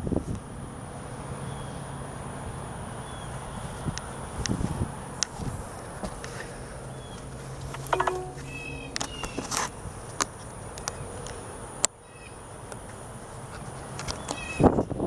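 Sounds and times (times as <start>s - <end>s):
insects droning: 0.1s - 15.0s.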